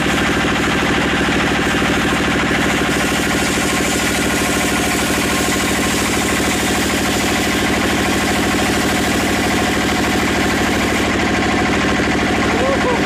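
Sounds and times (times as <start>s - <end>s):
band sawmill engine running: 0.0s - 13.0s.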